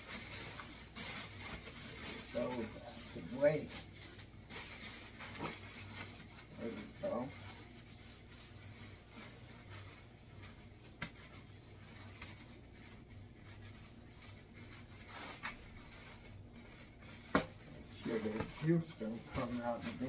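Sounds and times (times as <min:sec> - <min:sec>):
plastic bag rustling: 0:00.0 - 0:20.0.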